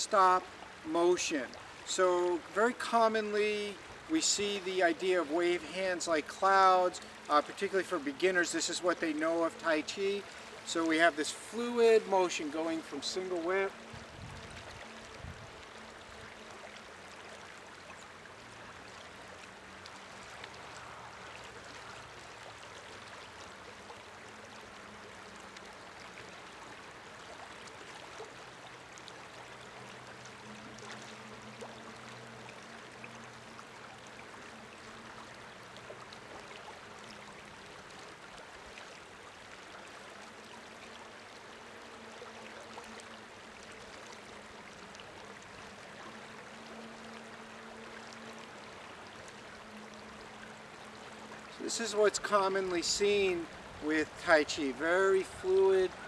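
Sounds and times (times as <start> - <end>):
creek flowing: 0.0 - 56.0.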